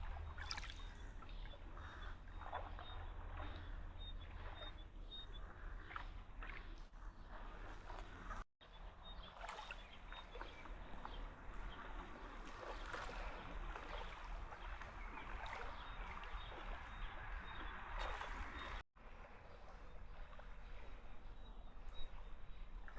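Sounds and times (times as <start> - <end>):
sea water splashing and lapping: 0.0 - 22.9.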